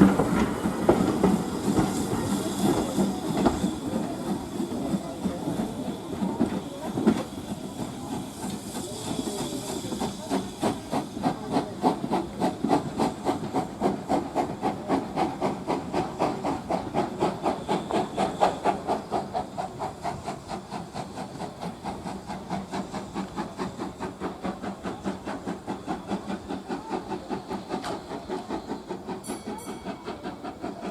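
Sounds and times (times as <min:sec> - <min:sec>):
steam locomotive hissing steam: 0:00.0 - 0:30.9.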